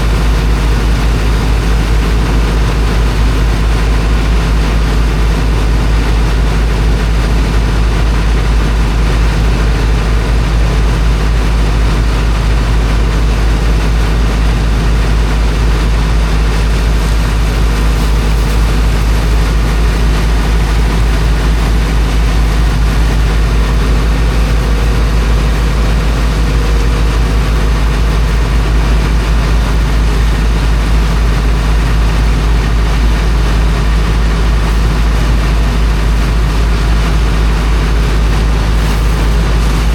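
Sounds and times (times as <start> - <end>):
water pump engine humming: 0.0 - 39.9.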